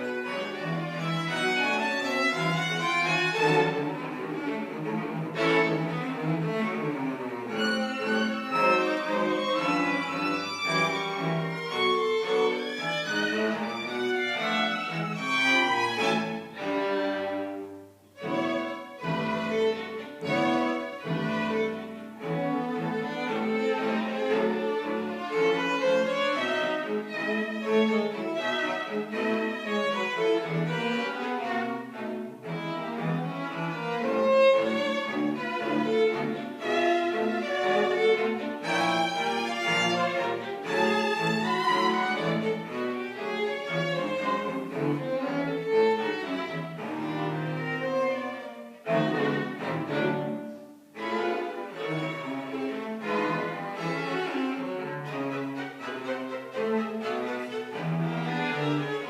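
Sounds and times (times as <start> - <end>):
string quartet playing: 0.0 - 59.0.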